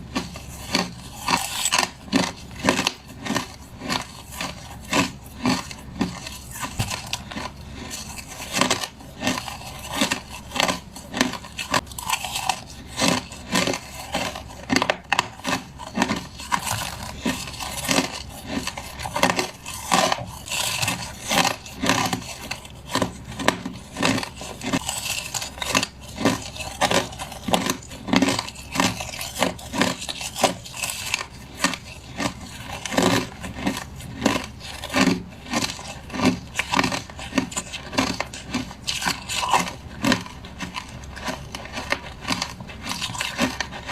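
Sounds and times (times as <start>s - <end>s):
crushed ice being chewed: 0.0s - 43.9s.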